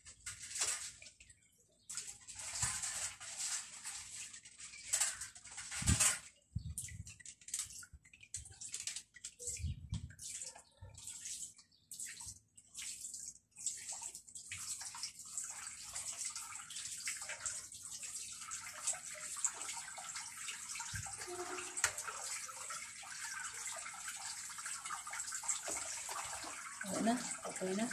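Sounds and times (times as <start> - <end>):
water splashing and running: 0.0 - 27.9
wet laundry being handled: 0.0 - 27.9.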